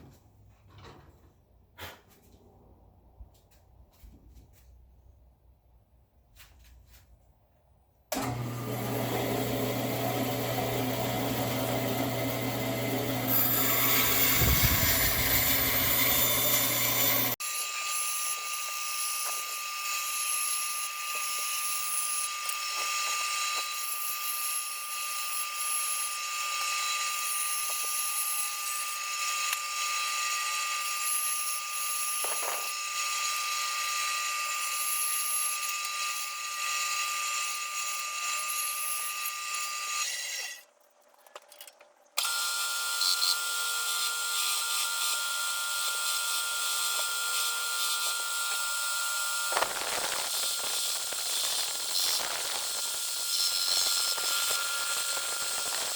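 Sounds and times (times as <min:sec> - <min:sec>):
power tool cutting wood: 0:08.1 - 0:40.7, 0:42.2 - 0:55.9.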